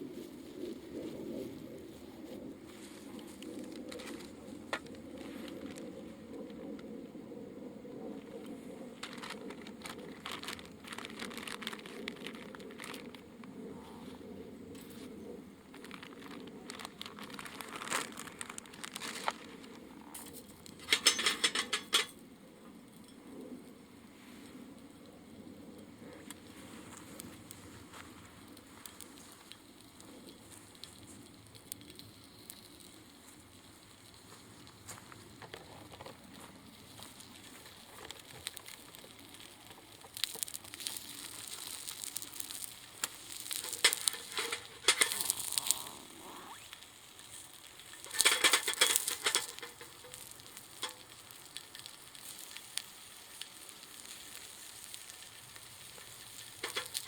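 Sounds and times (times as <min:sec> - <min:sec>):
wood fire sizzling and crackling: 0:00.0 - 0:57.0.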